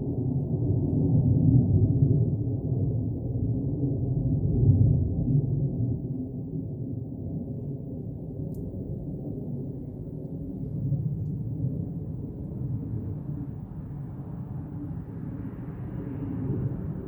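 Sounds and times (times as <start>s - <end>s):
low rumble in the sky: 0.0s - 17.0s.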